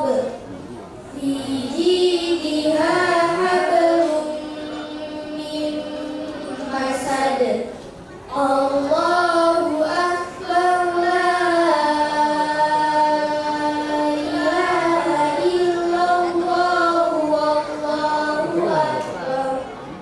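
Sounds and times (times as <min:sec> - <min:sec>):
girl chanting into a microphone: 0:01.2 - 0:07.7, 0:08.3 - 0:19.7.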